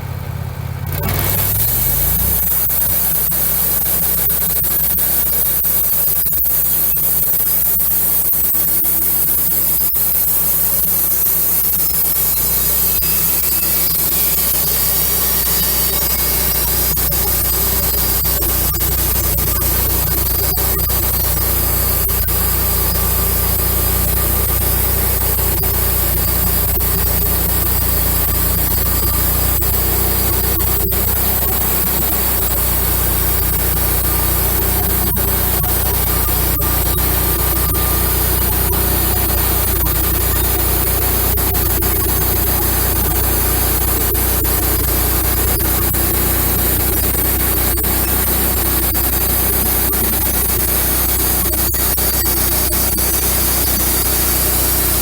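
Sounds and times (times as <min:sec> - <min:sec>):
bandsaw mill sawing wood: 0:00.9 - 0:55.0.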